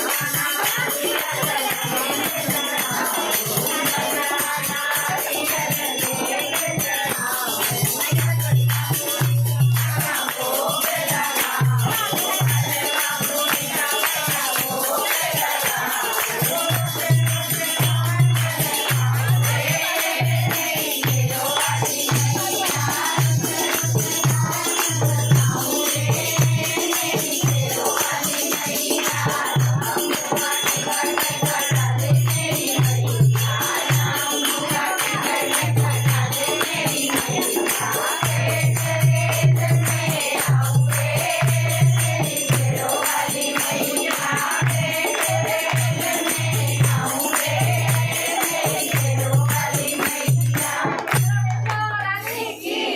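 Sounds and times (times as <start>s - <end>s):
steady drum beat: 0.0s - 51.6s
group singing devotional song: 0.0s - 52.9s
jingling percussion: 0.0s - 52.9s.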